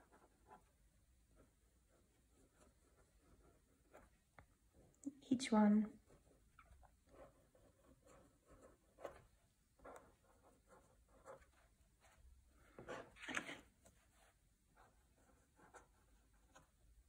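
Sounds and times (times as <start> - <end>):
pen scratching on paper: 0.0 - 4.8, 5.9 - 16.8.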